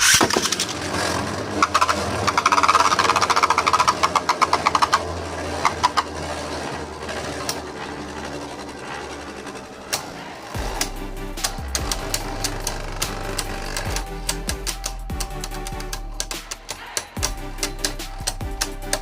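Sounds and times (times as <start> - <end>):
spinning tops clashing and rattling: 0.0 - 19.0
spinning tops whirring: 0.0 - 19.0.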